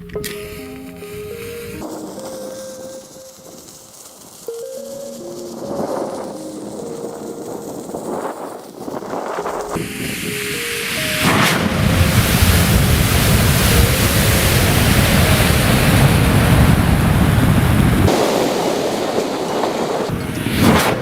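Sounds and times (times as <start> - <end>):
burning matches rushing flare: 0.0 - 21.0.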